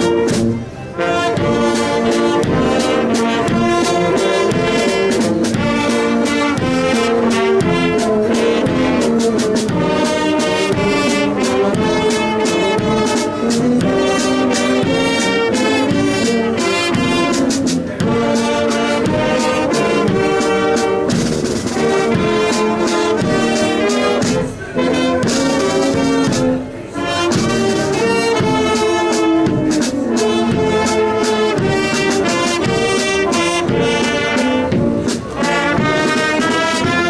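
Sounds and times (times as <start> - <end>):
brass band playing: 0.0 - 37.0
bass drum beating: 1.2 - 24.6, 27.3 - 37.0.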